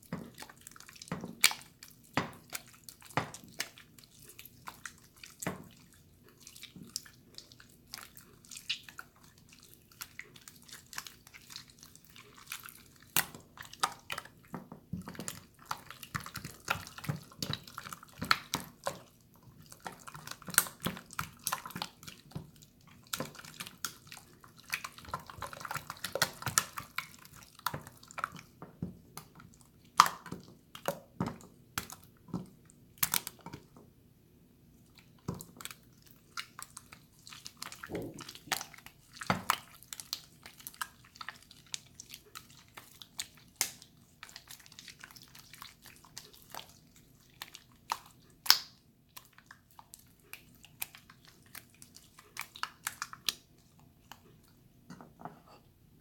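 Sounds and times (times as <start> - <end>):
slime squishing: 0.0 - 33.8, 34.8 - 54.6.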